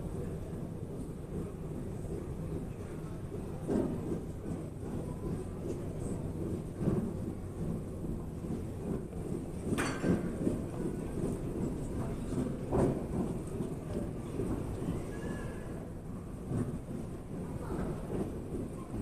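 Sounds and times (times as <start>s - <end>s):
waiting hall low rumble: 0.0s - 19.0s.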